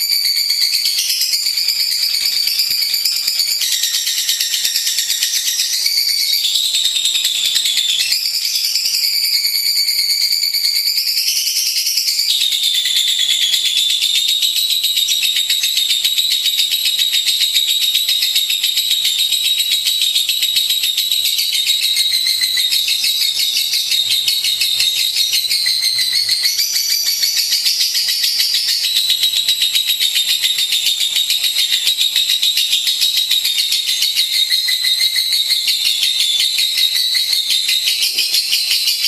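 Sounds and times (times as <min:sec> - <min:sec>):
bird chattering song: 0:00.0 - 0:39.0.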